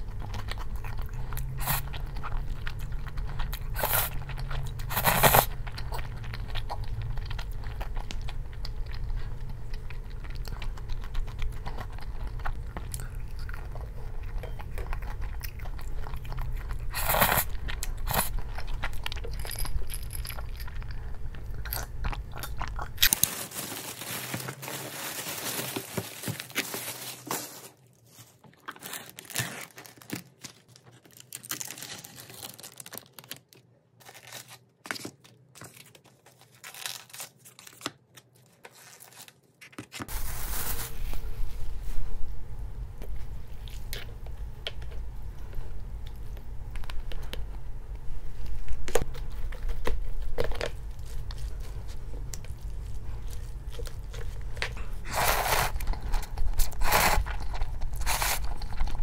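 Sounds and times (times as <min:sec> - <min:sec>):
person chewing and crunching food: 0:00.0 - 0:41.4, 0:43.0 - 0:59.0
low background hum: 0:00.0 - 0:59.0.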